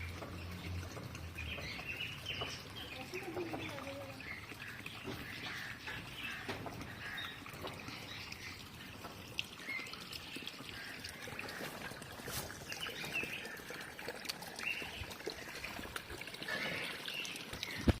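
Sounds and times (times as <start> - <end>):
birds chirping: 0.0 - 18.0
trickling water: 0.0 - 18.0.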